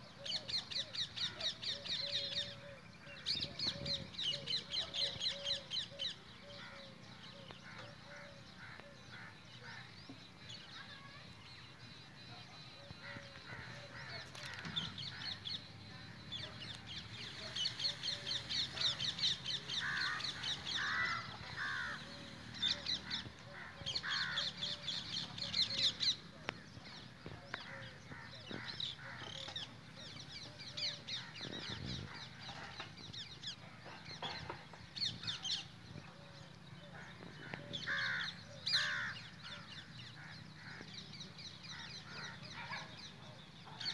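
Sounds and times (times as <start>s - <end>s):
birds chattering chirps: 0.0s - 43.9s.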